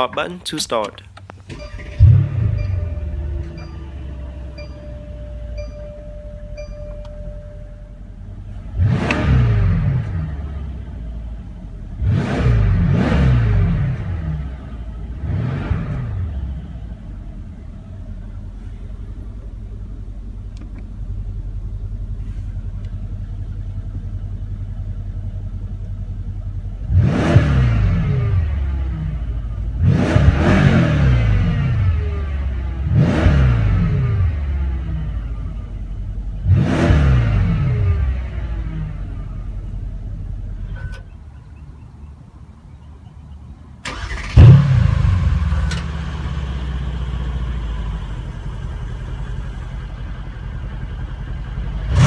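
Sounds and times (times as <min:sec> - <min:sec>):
car engine revving and idling: 0:00.0 - 0:52.0.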